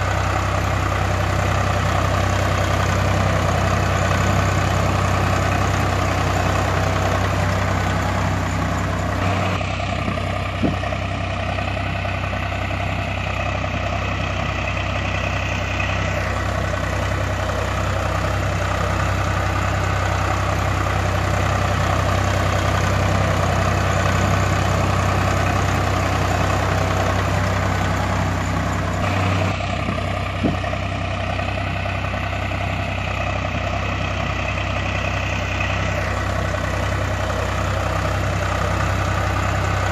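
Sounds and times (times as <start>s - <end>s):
engine idling with low hum: 0.0s - 39.9s.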